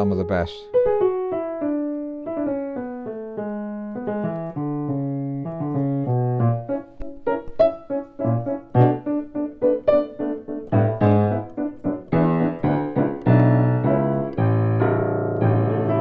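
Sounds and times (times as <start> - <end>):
grand piano notes and chords: 0.0 - 16.0.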